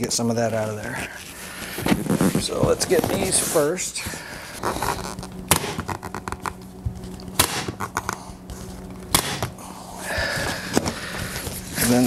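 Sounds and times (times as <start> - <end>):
vinyl rustling: 0.0 - 12.0.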